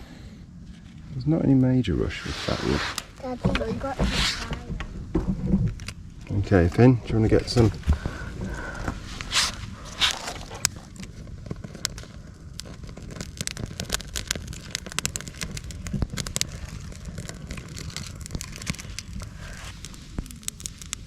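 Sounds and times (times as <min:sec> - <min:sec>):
campfire crackling and popping: 0:00.1 - 0:21.0.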